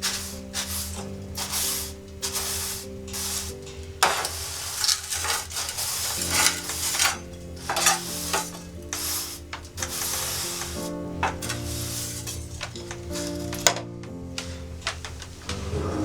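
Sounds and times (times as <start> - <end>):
water sizzling on hot stones: 0.0 - 13.8, 14.4 - 15.9
soft background music: 0.0 - 16.0.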